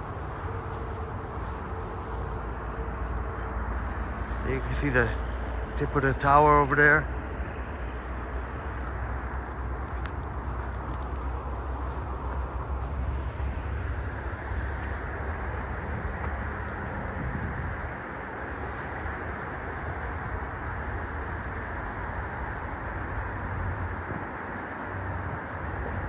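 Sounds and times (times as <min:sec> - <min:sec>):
low rumble: 0:00.0 - 0:24.3
passing road traffic: 0:00.0 - 0:26.0.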